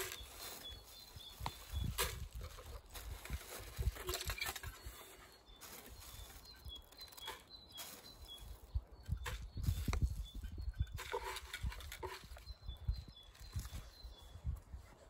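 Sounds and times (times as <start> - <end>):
high bird chirps: 0.0 - 14.8.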